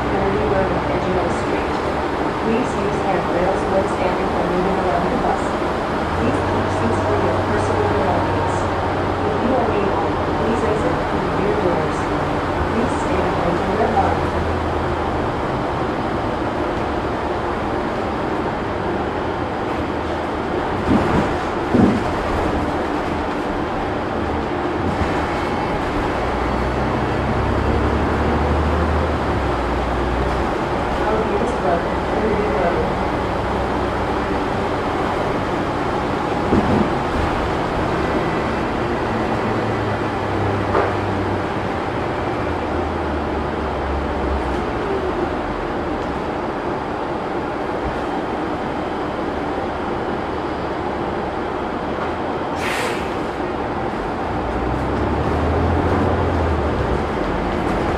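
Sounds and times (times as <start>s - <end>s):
bus engine and road noise: 0.0s - 57.9s.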